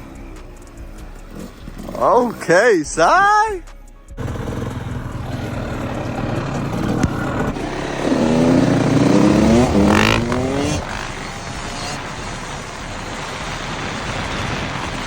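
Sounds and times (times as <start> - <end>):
dirt bike engine accelerating: 0.0 - 3.5, 4.1 - 15.0.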